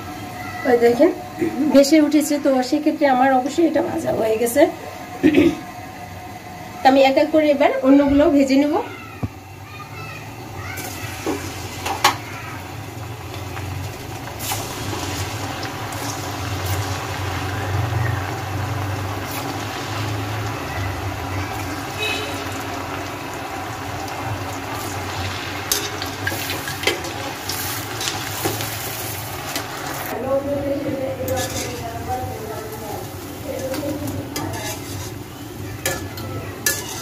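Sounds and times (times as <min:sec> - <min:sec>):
dough deep-frying in oil: 0:00.0 - 0:37.0.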